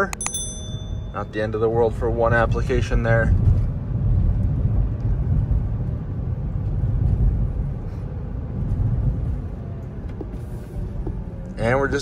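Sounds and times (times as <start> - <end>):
road and tyre noise in cabin: 0.0 - 12.0.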